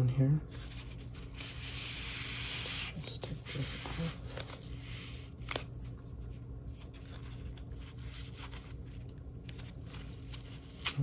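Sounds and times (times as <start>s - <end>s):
wrapping crackling and peeling: 0.5s - 11.0s.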